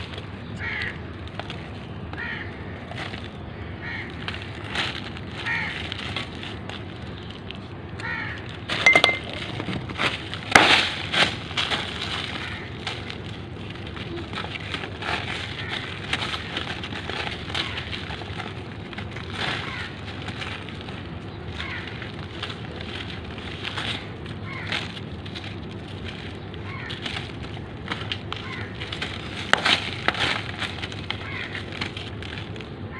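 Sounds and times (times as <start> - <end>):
cement blocks crunching by hand: 4.1 - 32.8.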